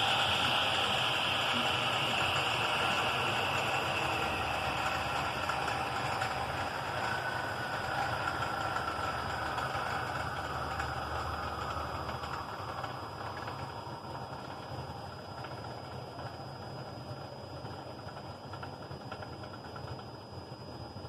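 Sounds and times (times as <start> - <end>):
motor whine: 0.0 - 18.0.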